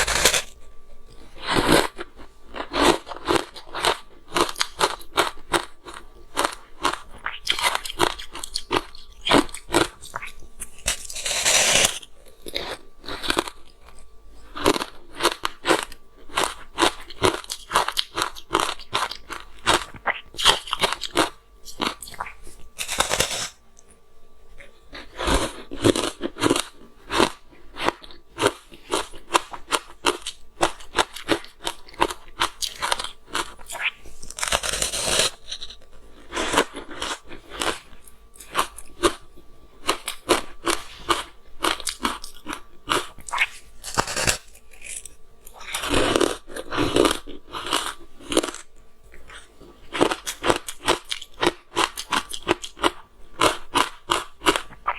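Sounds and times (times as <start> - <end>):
crunching and chewing ice: 0.0 - 54.9.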